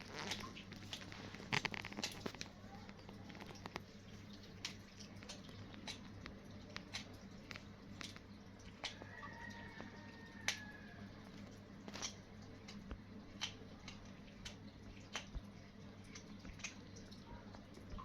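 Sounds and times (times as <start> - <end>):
kittens eating with wet clicks: 0.0 - 18.0.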